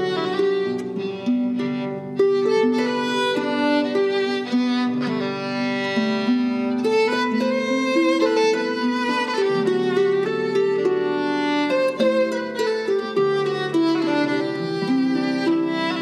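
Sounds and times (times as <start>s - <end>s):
harp melody: 0.0s - 16.0s.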